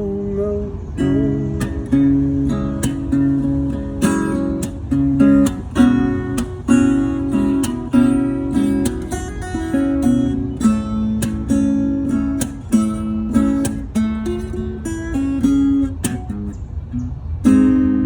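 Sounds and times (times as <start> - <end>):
acoustic guitar strummed and picked: 0.0 - 18.0.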